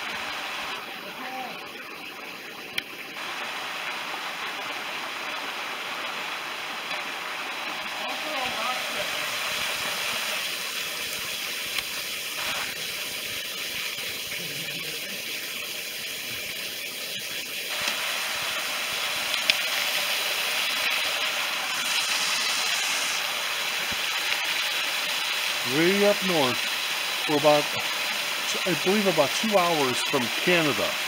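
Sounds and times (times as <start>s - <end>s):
waterfall splashing into pool: 0.0s - 31.0s.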